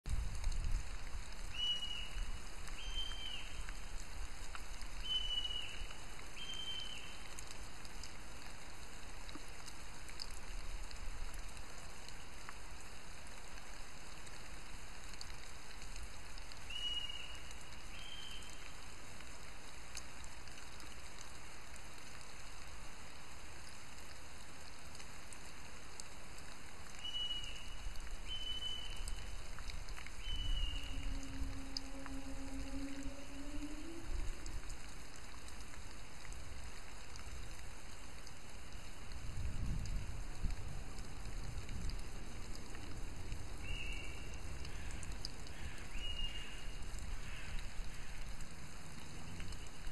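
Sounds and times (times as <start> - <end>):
steady hiss: 0.1 - 49.9.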